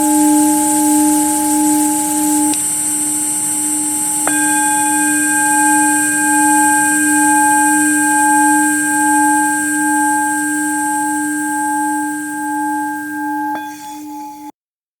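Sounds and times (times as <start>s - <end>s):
singing bowl ringing: 0.0s - 14.6s.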